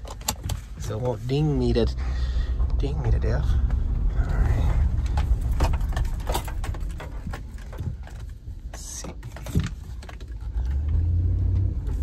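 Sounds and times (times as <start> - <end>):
car interior clicks and rattles: 0.0 - 12.0
engine and road rumble: 0.0 - 12.0.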